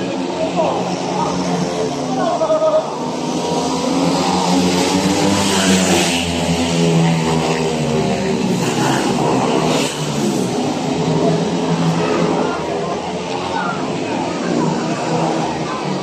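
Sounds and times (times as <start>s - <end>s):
motorcycle engines racing: 0.0s - 16.0s.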